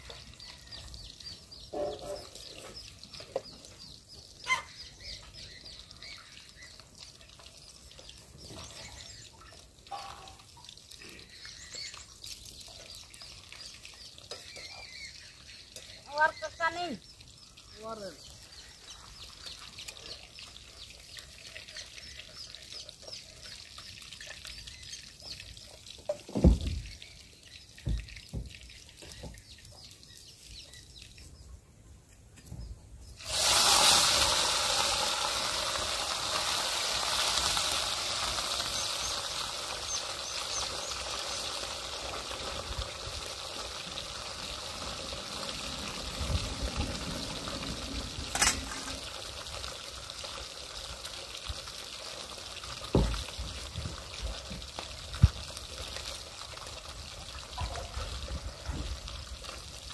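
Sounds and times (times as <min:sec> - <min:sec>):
fish sizzling in hot oil: 0:04.1 - 0:26.0, 0:33.1 - 0:59.9.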